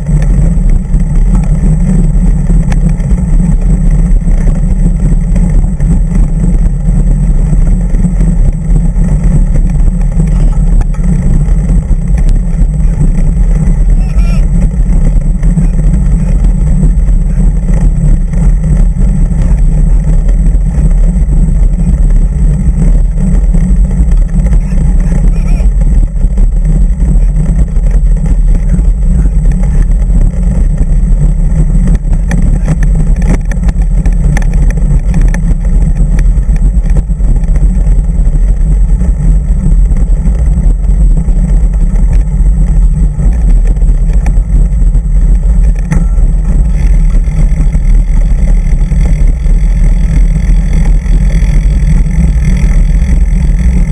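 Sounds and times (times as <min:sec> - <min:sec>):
road vibration rumble: 0:00.0 - 0:53.9
wind buffeting: 0:00.0 - 0:53.9.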